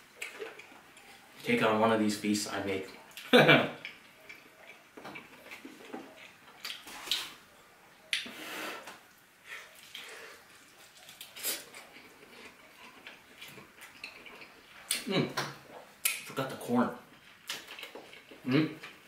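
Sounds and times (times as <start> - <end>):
person chewing food: 0.1 - 1.4, 2.9 - 16.3, 17.1 - 19.0.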